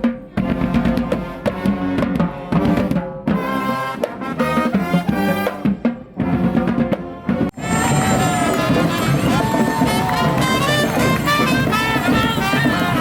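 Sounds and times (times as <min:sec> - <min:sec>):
brass band horns: 0:00.0 - 0:13.0
drums and percussion: 0:00.0 - 0:13.0.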